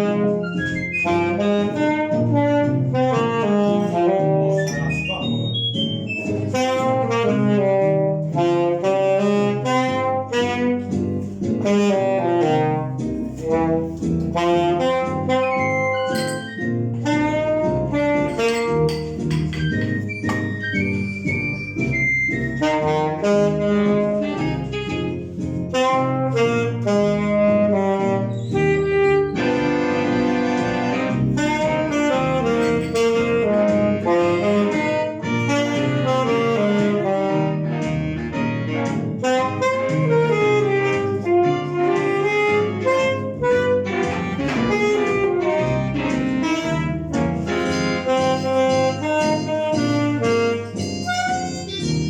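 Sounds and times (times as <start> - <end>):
alto saxophone playing: 0.0 - 52.0.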